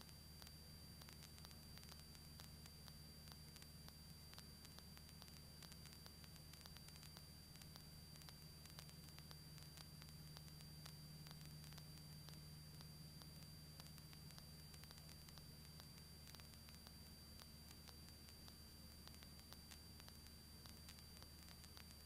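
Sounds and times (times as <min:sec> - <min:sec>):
faint clicks: 0:00.0 - 0:22.0
steady low hum: 0:00.0 - 0:22.0
thin high whine: 0:00.0 - 0:22.0.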